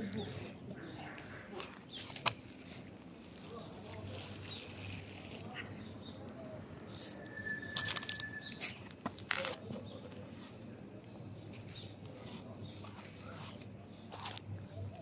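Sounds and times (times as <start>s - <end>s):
cats crunching dry kibble: 0.0s - 15.0s.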